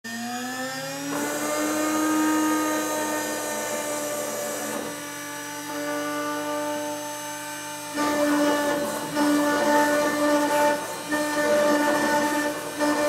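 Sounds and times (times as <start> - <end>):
engraving spindle whining: 0.1 - 13.0.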